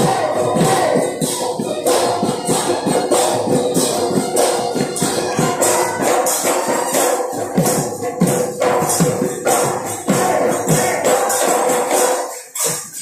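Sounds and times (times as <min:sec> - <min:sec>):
dhol drums beating fast rhythm: 0:00.0 - 0:13.0
metal hand percussion jingling: 0:00.6 - 0:13.0.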